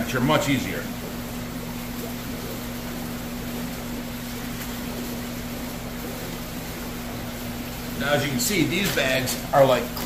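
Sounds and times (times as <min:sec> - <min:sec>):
aquarium pumps humming: 0:00.0 - 0:10.0.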